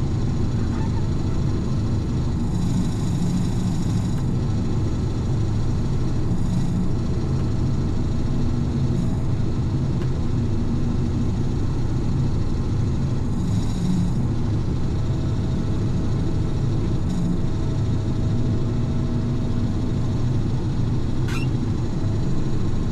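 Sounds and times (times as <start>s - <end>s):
combine harvester rumble: 0.0s - 22.9s.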